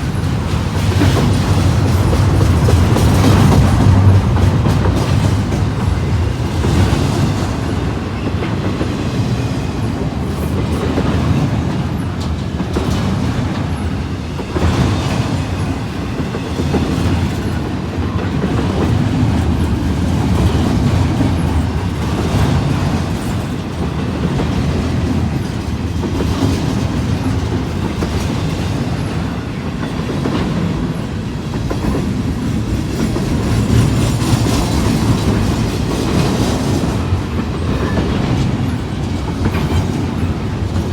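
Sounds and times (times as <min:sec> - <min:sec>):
freight train clattering past: 0:00.0 - 0:40.9.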